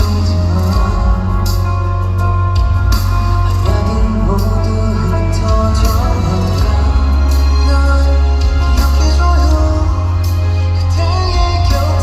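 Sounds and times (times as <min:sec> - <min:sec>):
soft pop song: 0:00.0 - 0:12.0.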